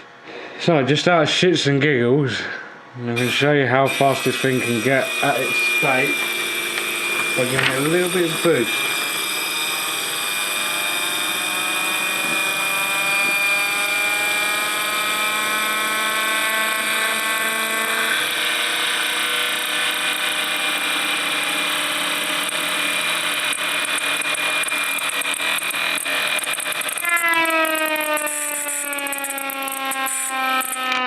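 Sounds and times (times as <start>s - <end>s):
siren whine rising in pitch: 3.2s - 31.0s.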